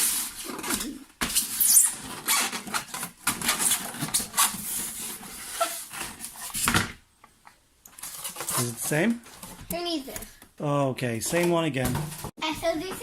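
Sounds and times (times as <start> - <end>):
objects rustling and scraping: 0.0 - 10.4, 11.2 - 13.0.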